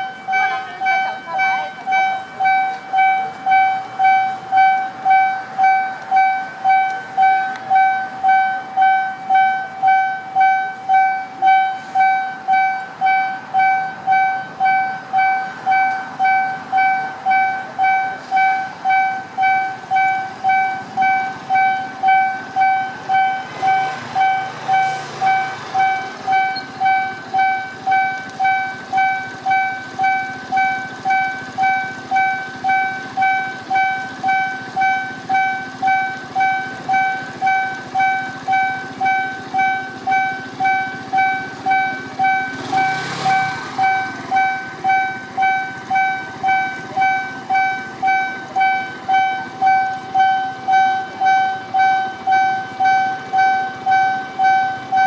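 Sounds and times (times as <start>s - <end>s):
faint road traffic: 0.0s - 55.0s
level crossing alarm beeping: 0.0s - 55.0s.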